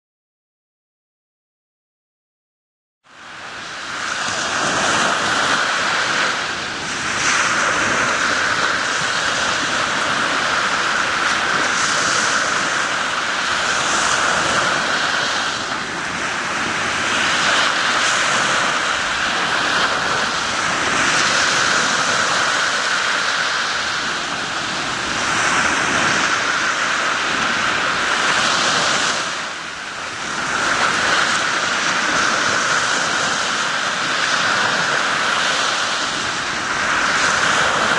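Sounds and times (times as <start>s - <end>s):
waves washing up beach: 3.1s - 37.9s.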